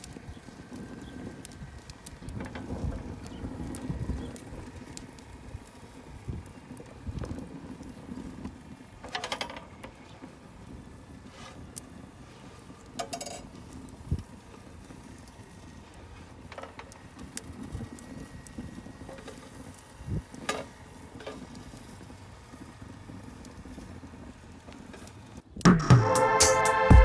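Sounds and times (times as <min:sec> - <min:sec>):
fire crackling: 0:00.0 - 0:27.0.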